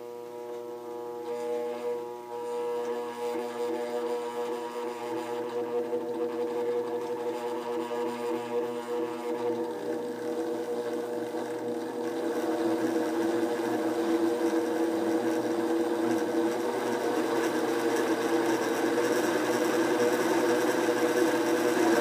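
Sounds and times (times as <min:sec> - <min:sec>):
electric motor whirring hum: 0:00.0 - 0:22.0.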